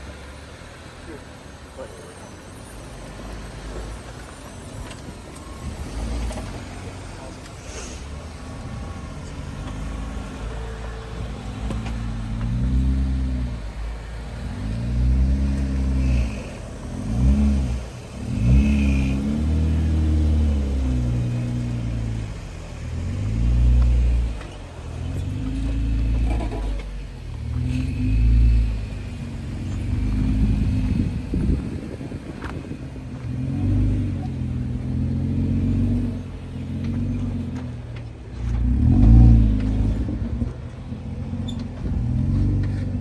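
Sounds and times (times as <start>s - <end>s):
car engine revving: 0.7s - 43.0s.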